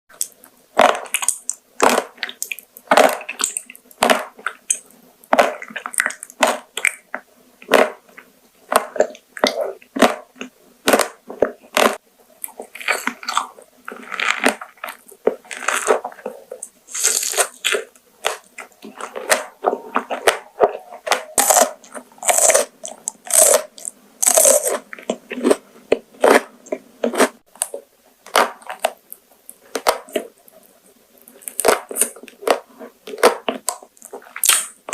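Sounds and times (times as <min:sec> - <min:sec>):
person chewing crunchy food: 0:00.1 - 0:34.9.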